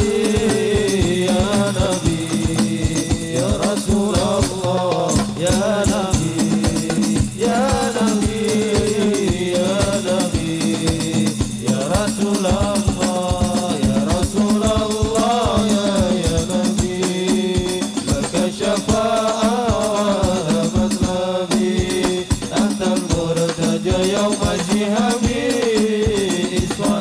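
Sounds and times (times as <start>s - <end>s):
frame drums beating: 0.0s - 27.0s
men singing devotional melody: 0.0s - 27.0s.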